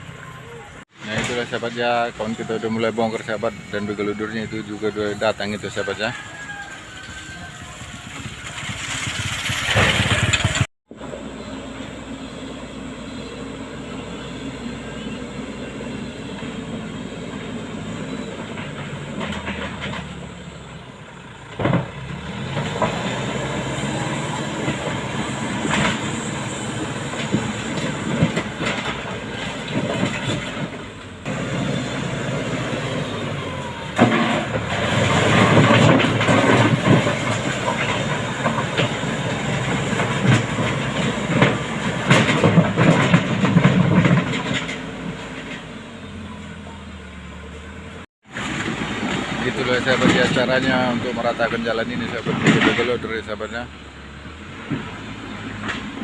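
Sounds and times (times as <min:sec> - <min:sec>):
loader diesel engine under load: 0:00.0 - 0:56.0.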